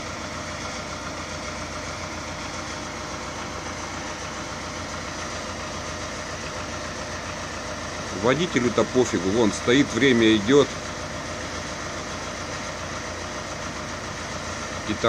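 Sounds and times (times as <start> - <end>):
sweeper engine chugging drone: 0.0 - 15.0.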